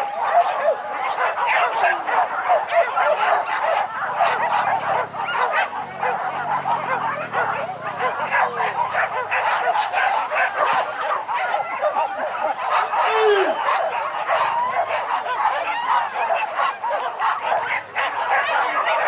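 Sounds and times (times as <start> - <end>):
dogs barking and yelping: 0.0 - 19.0.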